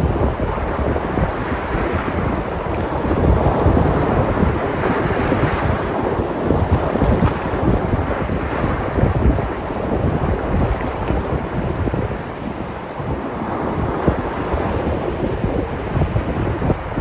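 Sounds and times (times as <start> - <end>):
waves breaking on shore: 0.0 - 17.0
wind rumbling on microphone: 0.0 - 17.0.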